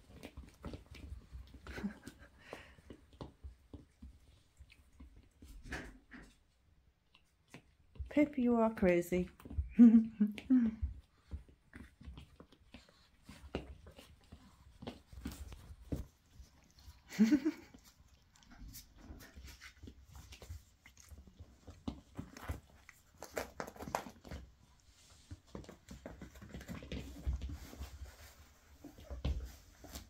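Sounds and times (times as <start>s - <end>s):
puppies scuffling on blankets: 0.0s - 30.0s.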